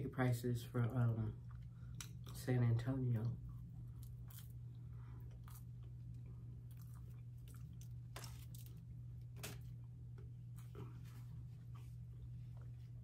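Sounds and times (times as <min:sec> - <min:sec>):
steady low hum: 0:00.0 - 0:13.0
person chewing food: 0:01.4 - 0:02.4, 0:03.4 - 0:13.0.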